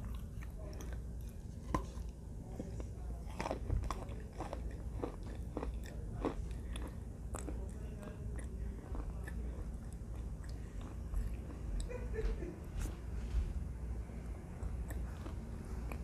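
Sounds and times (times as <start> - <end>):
chewing: 0.0 - 11.9, 14.6 - 16.0.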